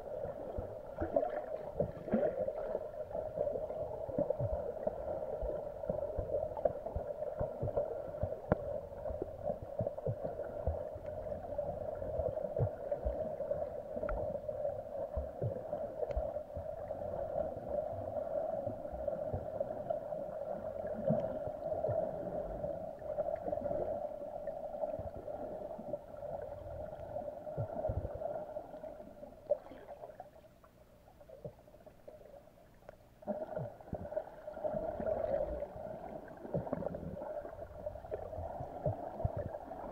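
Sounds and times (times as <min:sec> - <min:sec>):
low bumps from water movement: 0:00.0 - 0:39.9
underwater hum: 0:00.0 - 0:39.9.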